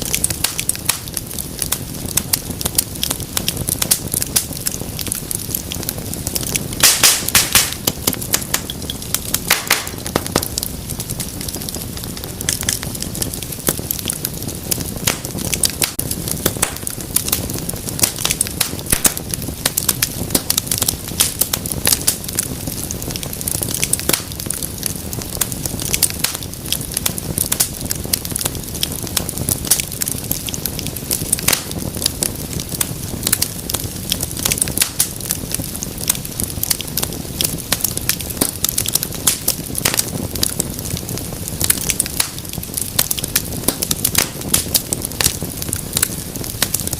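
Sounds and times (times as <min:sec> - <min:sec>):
low rumble of burning: 0:00.0 - 0:46.9
wood fire crackling and popping: 0:00.0 - 0:46.9.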